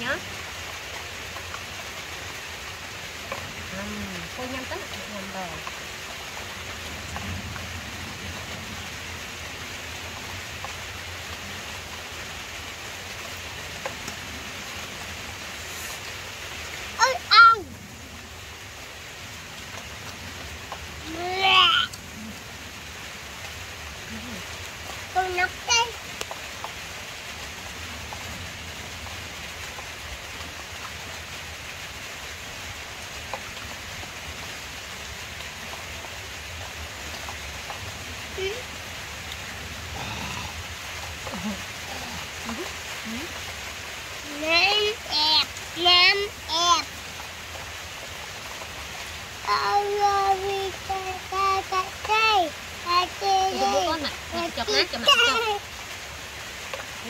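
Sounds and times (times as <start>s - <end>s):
outdoor hiss: 0.0s - 57.0s.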